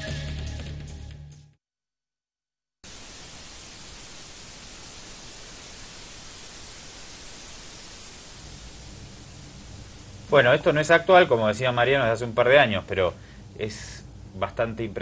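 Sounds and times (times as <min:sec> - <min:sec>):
static hiss: 0:02.8 - 0:15.0.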